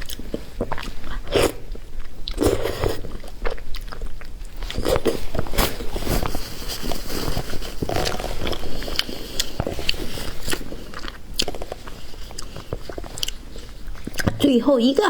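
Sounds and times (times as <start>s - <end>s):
chewing and biting: 0.0s - 14.4s.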